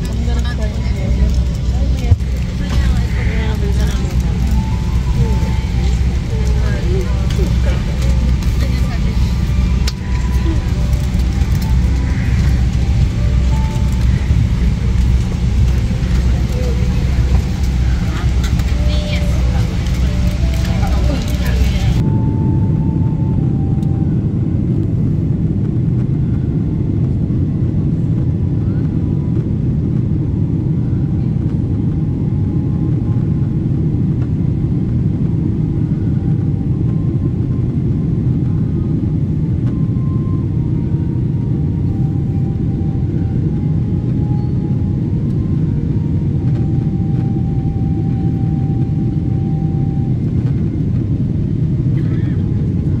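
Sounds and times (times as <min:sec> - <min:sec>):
jet engines rumbling in cabin: 0:00.0 - 0:53.0.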